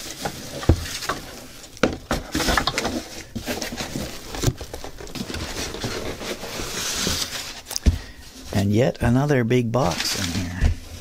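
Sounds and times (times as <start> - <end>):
cardboard boxes scraping and bumping: 0.0 - 8.8, 9.8 - 11.0
bubble-wrap crinkling: 0.0 - 8.9, 9.8 - 11.0.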